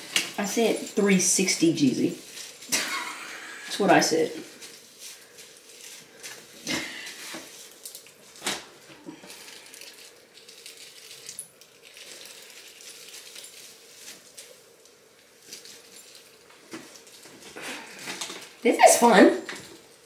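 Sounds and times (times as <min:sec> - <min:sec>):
plastic gloves rustling: 0:00.0 - 0:20.0.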